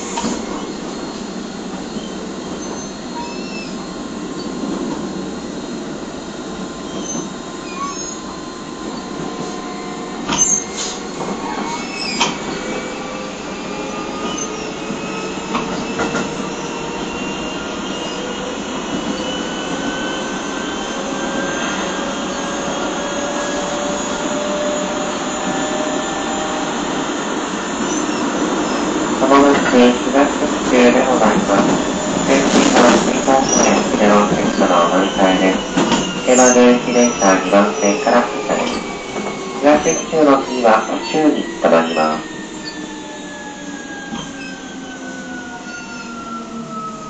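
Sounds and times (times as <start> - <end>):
train motor whine: 0.0 - 47.0
train rumble: 0.0 - 47.0.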